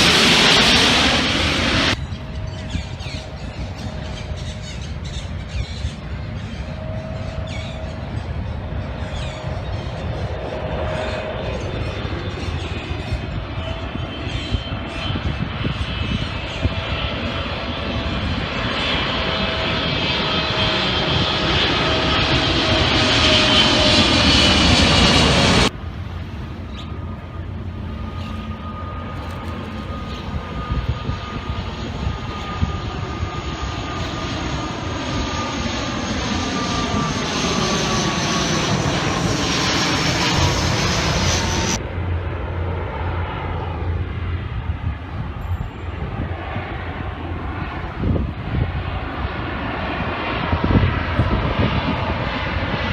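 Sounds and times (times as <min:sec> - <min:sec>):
aircraft engine passing: 0:00.0 - 0:52.9.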